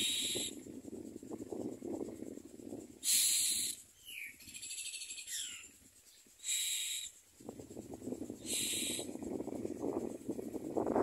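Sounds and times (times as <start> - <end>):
nestlings harsh hissing calls: 0.0 - 0.9, 2.1 - 10.7.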